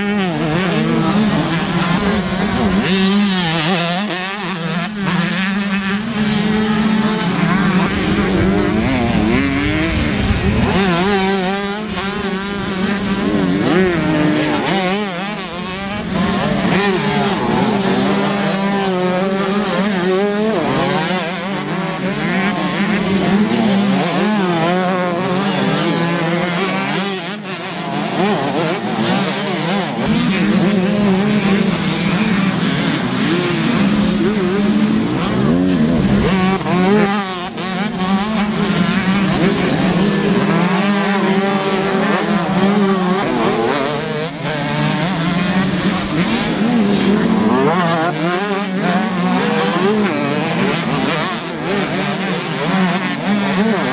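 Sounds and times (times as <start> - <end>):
motocross bikes revving: 0.0 - 53.9.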